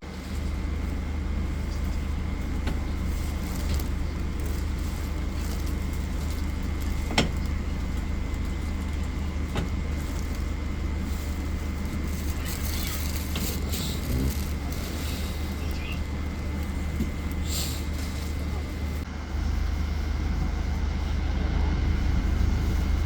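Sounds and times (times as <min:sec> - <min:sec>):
train rumbling: 0:00.0 - 0:23.0
faint high hum: 0:00.1 - 0:23.0.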